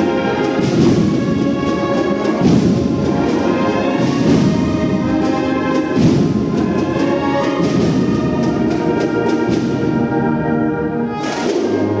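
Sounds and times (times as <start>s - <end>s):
brass band playing a march: 0.0s - 12.0s
percussion strikes: 0.0s - 12.0s.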